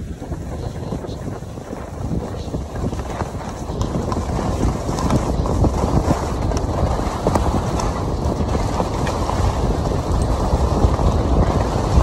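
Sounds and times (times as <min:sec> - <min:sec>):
skis scraping over snow: 0:00.0 - 0:12.0.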